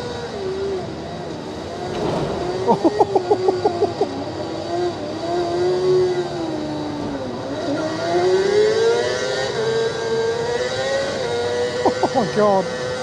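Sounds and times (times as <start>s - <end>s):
racing motorcycle engine revving: 0.0s - 13.0s.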